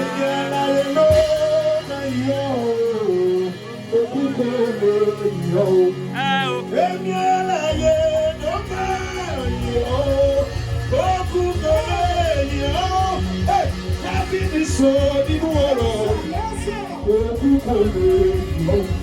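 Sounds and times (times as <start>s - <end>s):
bass: 0.0s - 19.0s
drums: 0.0s - 19.0s
wavering melodic lead line: 0.0s - 19.0s.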